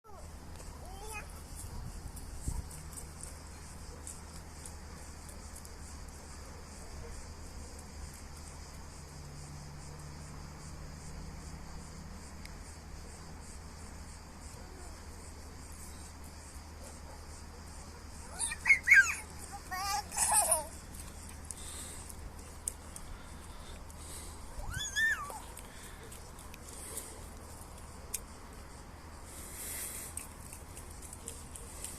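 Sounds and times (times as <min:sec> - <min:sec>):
insects chirping: 0:00.1 - 0:31.9.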